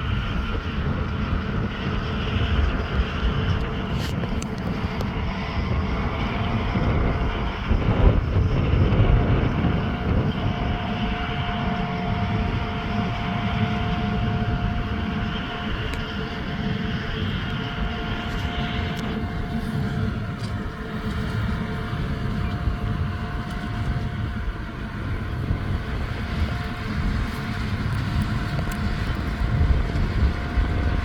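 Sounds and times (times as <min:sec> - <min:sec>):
thin steady machine whine: 0:00.0 - 0:31.0
tractor engine rumble: 0:00.0 - 0:31.0.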